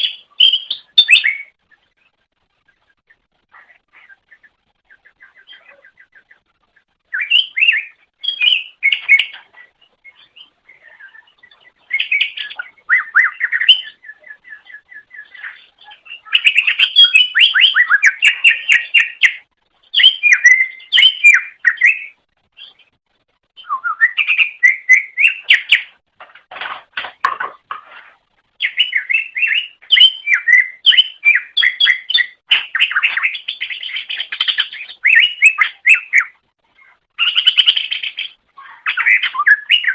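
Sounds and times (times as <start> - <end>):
bird singing trills and whistles: 0.0 - 2.9, 3.6 - 22.9, 23.6 - 26.0, 28.6 - 39.9.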